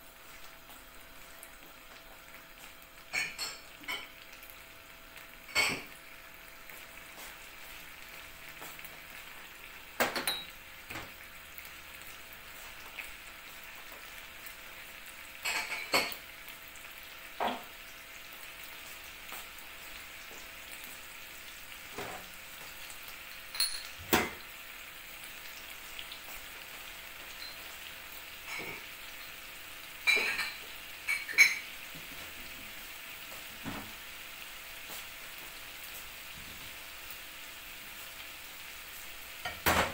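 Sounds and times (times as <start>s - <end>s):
shrimp sizzling in a pan: 0.0s - 39.9s.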